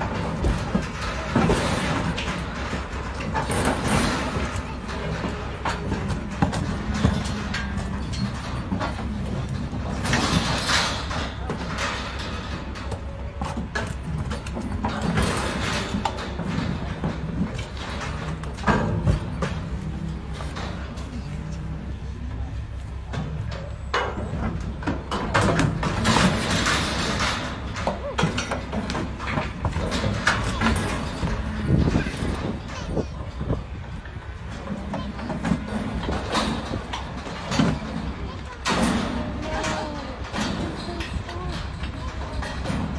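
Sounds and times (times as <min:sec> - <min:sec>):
cattle hooves clomping on ramp: 0:00.0 - 0:42.9
trailer knocks and rattles: 0:00.0 - 0:42.9.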